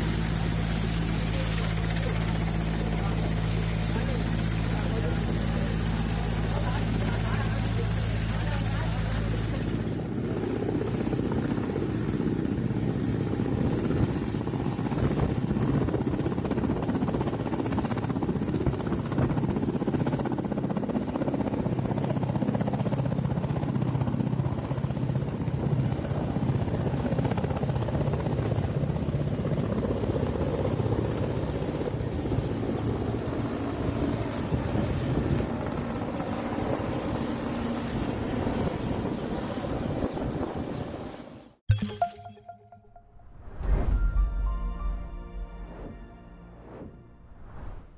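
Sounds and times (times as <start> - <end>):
helicopter rotor and engines: 0.0 - 41.6.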